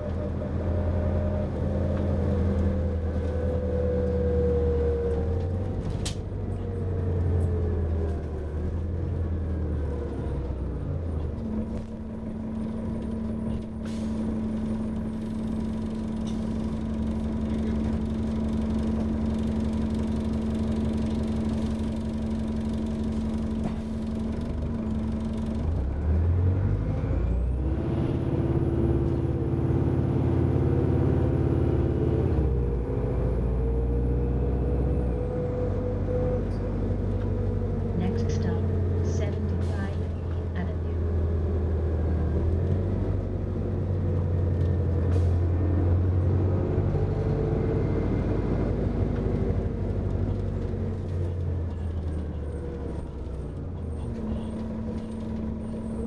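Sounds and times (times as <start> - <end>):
bus engine: 0.0 - 56.0.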